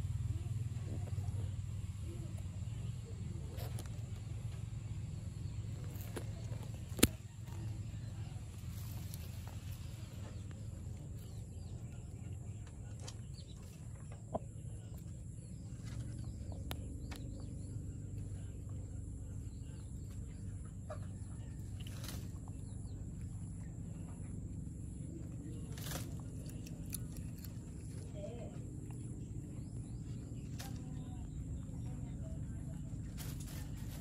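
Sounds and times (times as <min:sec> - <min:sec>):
low hum: 0:00.0 - 0:34.0
cat chewing grass: 0:05.6 - 0:34.0.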